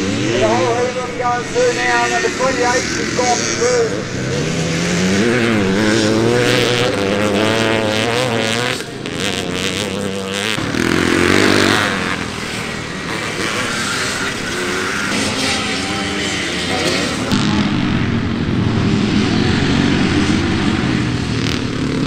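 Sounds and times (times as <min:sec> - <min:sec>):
motocross bike engines racing: 0:00.0 - 0:22.0.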